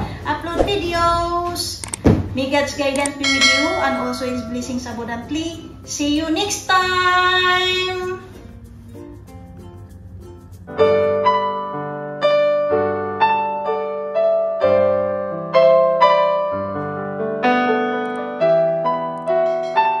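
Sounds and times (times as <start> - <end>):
piano background music: 0.0 - 20.0.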